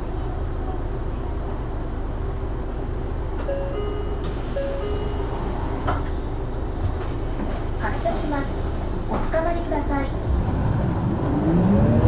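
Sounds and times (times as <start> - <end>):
bus low rumble: 0.0 - 12.0.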